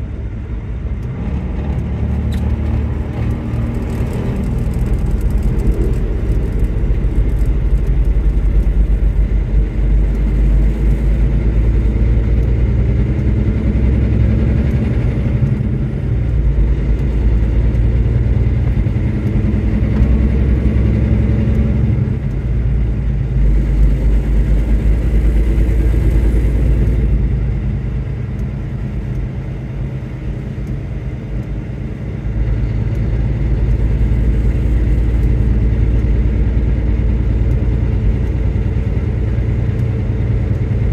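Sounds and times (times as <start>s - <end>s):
vehicle driving on wet road: 0.0s - 40.9s.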